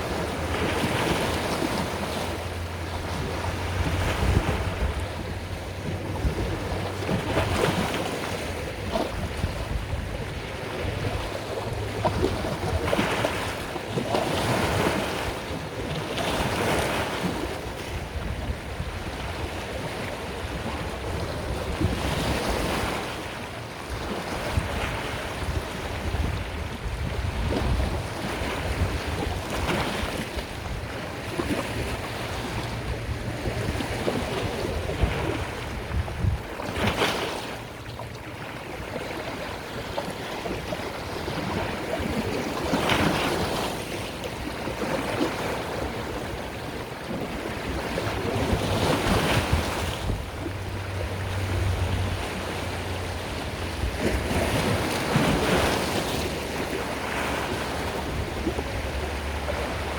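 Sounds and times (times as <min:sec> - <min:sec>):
sea waves washing in: 0:00.0 - 0:59.9.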